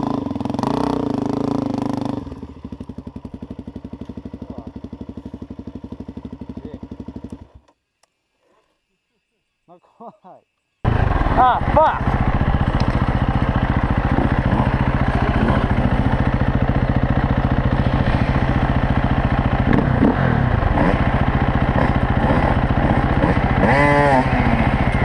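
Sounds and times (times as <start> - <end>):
dirt bike engine idling: 0.0 - 7.7, 10.8 - 25.0.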